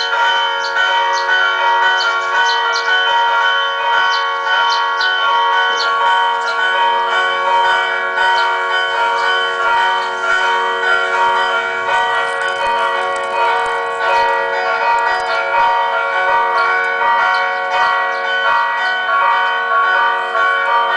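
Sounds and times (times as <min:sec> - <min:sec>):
church bells ringing: 0:00.0 - 0:20.9.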